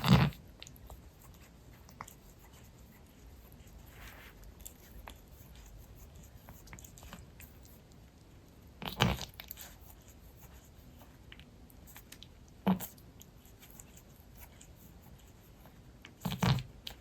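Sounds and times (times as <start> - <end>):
cat licking and smacking: 0.1 - 17.0.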